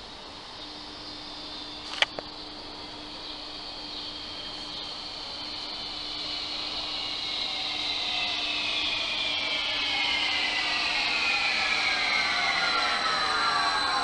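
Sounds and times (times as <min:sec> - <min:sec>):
electric train whine: 0:00.0 - 0:14.0.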